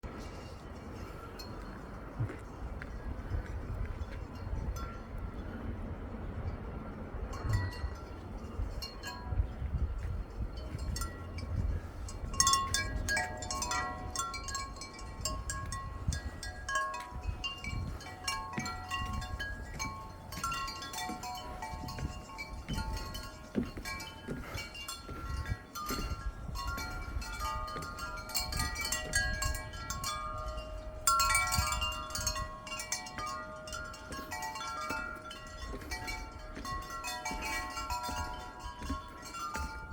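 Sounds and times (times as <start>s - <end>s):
wind rumble on microphone: 0.0s - 39.9s
metal wind chimes ringing: 0.1s - 2.8s, 3.8s - 5.6s, 6.4s - 39.9s.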